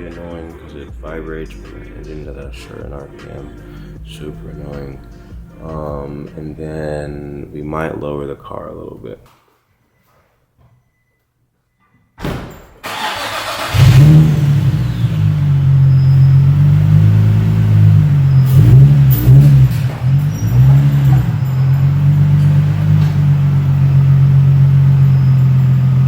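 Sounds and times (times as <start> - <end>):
car engine starting and idling: 0.0 - 7.9, 12.8 - 26.0.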